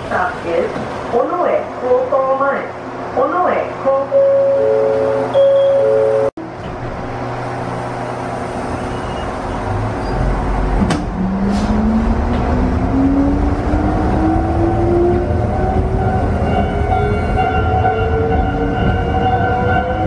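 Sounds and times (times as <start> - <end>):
train rumbling hum: 0.0 - 20.0.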